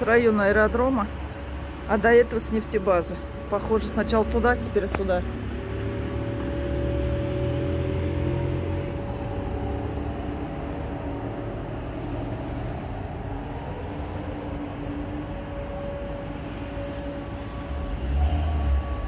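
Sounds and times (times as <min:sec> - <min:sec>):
distant air-raid siren: 0:00.0 - 0:19.0
outdoor background noise: 0:00.0 - 0:19.0.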